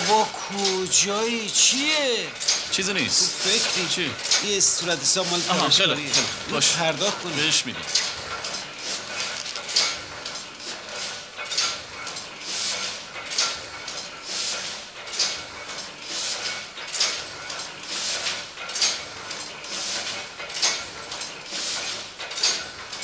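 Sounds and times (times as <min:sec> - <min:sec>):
printing press clacking: 0:00.0 - 0:23.0
printing press hiss: 0:00.0 - 0:23.0.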